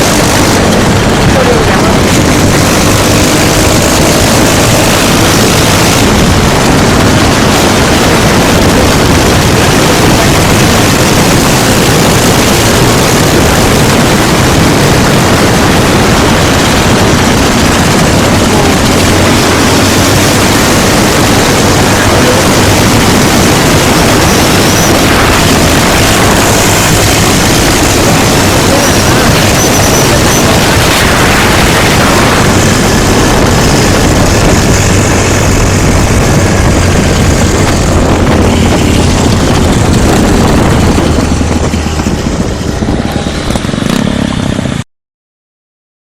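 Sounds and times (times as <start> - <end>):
motorcycle engine running: 0.0 - 44.8.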